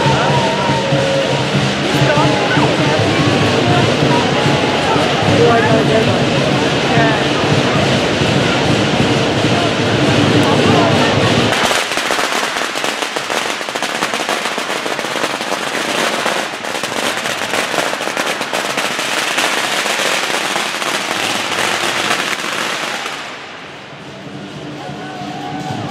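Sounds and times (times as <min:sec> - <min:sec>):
firecrackers popping: 0:00.0 - 0:24.4.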